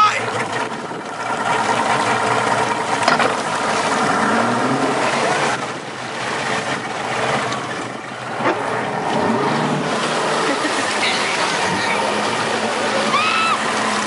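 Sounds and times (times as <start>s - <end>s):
rushing water: 0.0s - 14.0s
speedboat engine running: 0.0s - 14.0s
wind: 0.0s - 14.0s.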